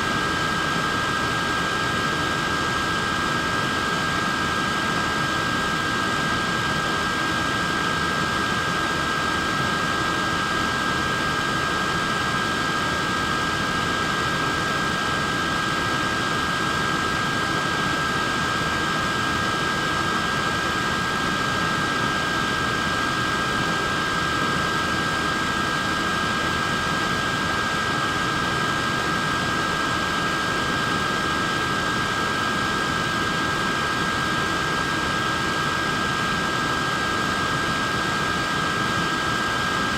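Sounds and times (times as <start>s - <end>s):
high-pitched motor whine: 0.0s - 39.9s.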